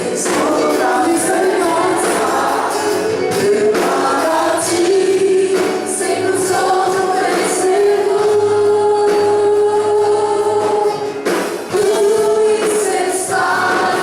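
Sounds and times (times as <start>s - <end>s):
band playing: 0.0s - 14.0s
group singing gospel: 0.0s - 14.0s.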